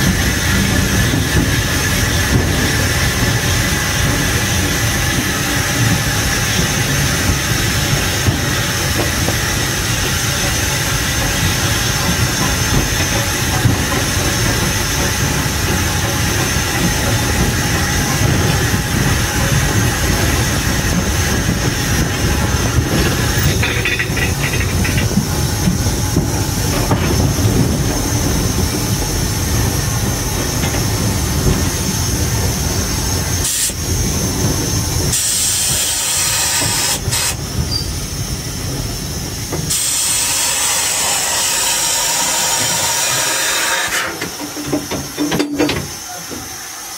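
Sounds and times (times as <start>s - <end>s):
low locomotive rumble: 0.0s - 43.3s
steam hissing: 0.0s - 46.9s.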